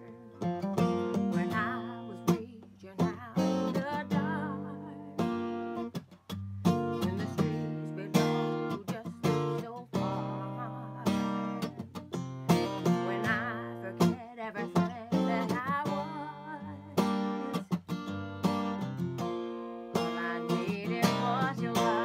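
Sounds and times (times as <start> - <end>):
woman singing: 0.0 - 5.6, 6.8 - 17.7, 19.9 - 22.0
acoustic guitar strumming chords: 0.0 - 22.0.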